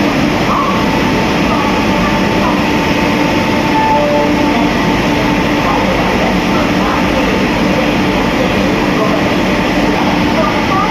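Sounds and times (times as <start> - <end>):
electric locomotive humming: 0.0 - 10.9.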